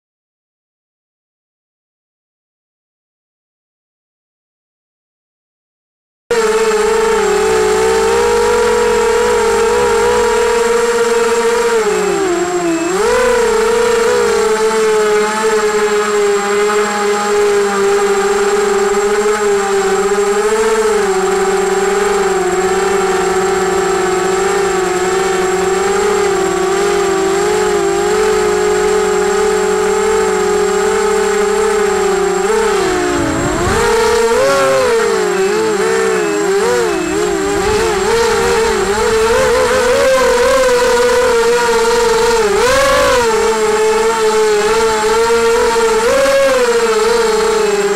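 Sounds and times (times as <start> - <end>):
drone motors whining: 6.3 - 47.9.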